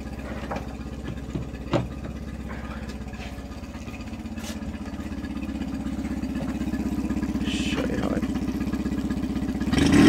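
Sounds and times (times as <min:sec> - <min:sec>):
outboard motor idling: 0:00.0 - 0:10.0.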